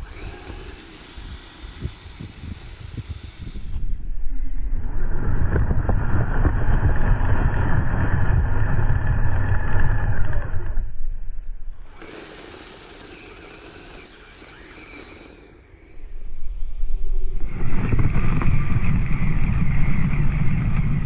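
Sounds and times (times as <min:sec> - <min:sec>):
quiet steady whine: 0:00.0 - 0:21.0.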